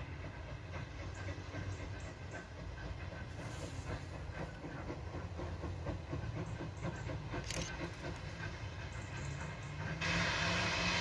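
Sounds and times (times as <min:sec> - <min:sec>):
distant steam locomotive chuffing: 0:00.0 - 0:11.0.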